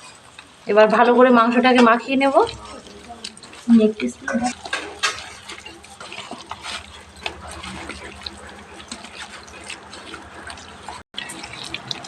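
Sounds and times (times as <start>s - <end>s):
wet squelches of meat in marinade: 1.4s - 12.0s.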